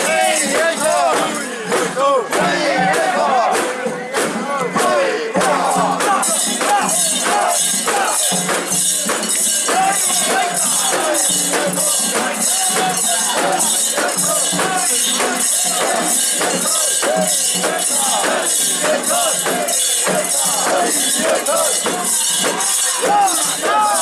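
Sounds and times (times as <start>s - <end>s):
people shouting and chanting: 0.0s - 24.0s.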